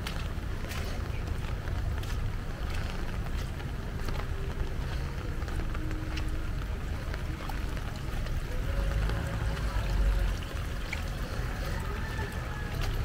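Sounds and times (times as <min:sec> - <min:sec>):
constant low rumble: 0:00.0 - 0:13.0
heavy rain falling: 0:00.0 - 0:13.0
raindrops ticking close by: 0:00.0 - 0:13.0.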